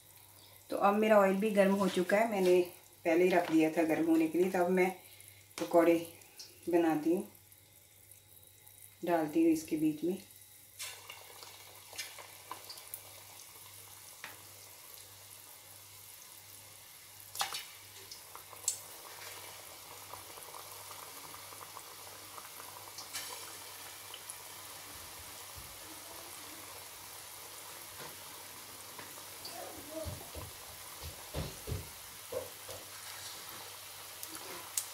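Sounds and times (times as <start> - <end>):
batter sizzling in hot oil: 0.0 - 34.9.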